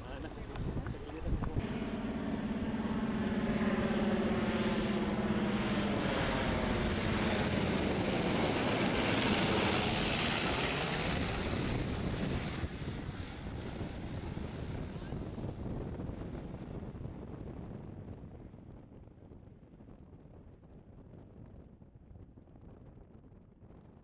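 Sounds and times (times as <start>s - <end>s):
propeller airplane flying overhead: 0.0s - 24.0s.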